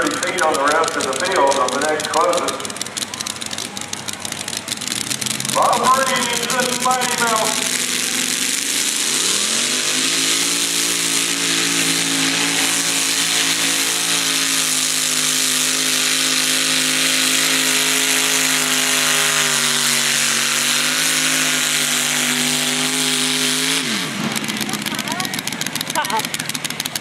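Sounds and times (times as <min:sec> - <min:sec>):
tractor engine revving high: 0:00.0 - 0:27.0.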